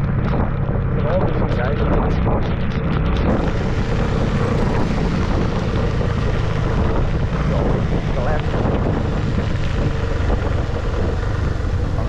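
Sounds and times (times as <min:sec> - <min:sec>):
driving rain: 0:00.0 - 0:12.0
motorcycle engine rumble: 0:00.0 - 0:12.0
wind buffeting microphone: 0:00.0 - 0:12.0.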